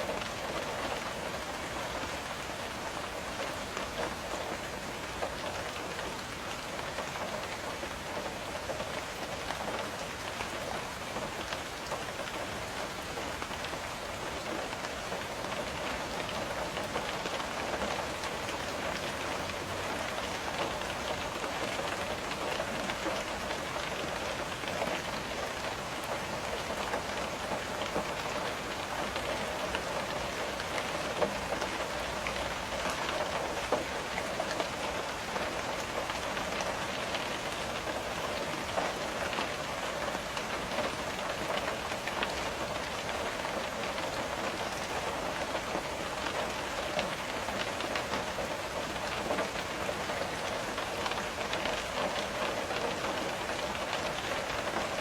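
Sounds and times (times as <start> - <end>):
rain tapping on window: 0.0 - 55.0.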